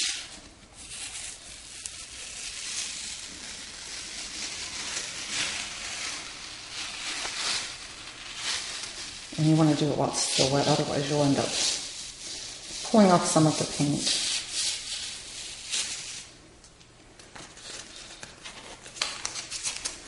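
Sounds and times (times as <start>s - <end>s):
tape being peeled off: 0.0s - 20.0s.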